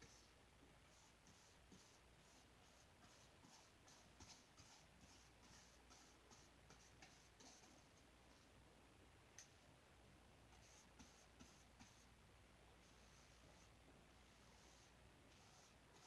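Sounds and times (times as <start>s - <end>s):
paintbrush strokes on canvas: 0.0s - 8.5s, 10.5s - 12.1s, 12.8s - 16.0s.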